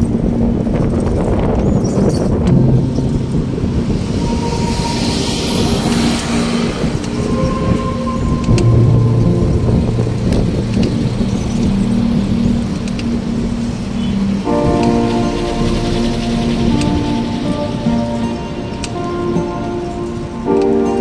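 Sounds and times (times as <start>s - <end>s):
bicycle rumble on pavement: 0.0s - 21.0s
low humming tones: 0.0s - 21.0s
wind buffeting microphone: 0.0s - 21.0s.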